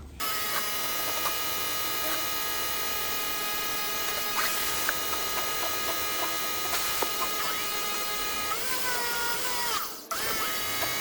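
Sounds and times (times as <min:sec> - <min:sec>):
pressure washer motor whine: 0:00.2 - 0:11.0.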